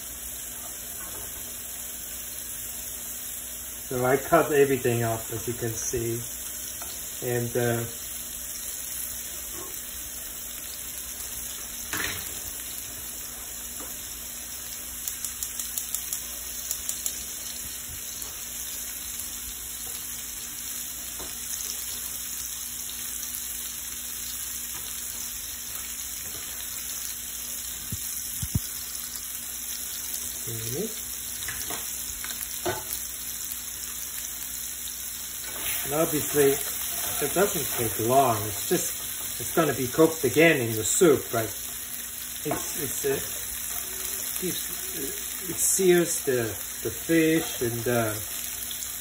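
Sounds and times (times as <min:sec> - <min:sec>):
fish sizzling in frying pan: 0:00.0 - 0:49.0.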